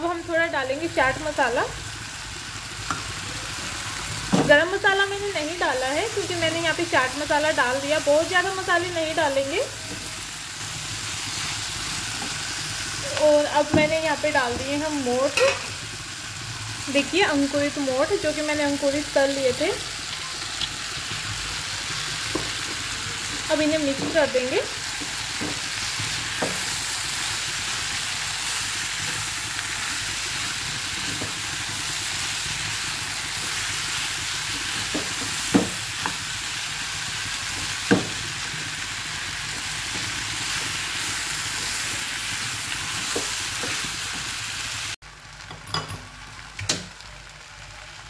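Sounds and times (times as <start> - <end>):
vegetables sizzling in oil: 0.0 - 48.0.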